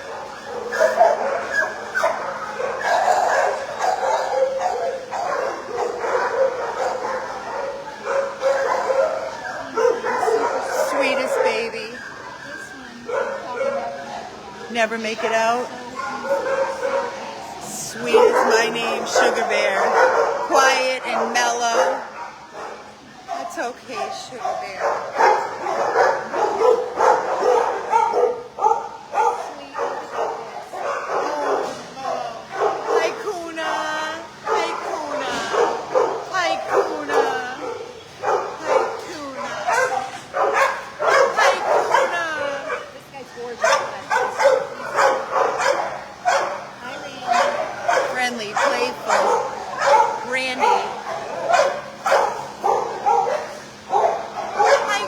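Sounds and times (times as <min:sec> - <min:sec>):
many dogs barking: 0:00.0 - 0:55.0.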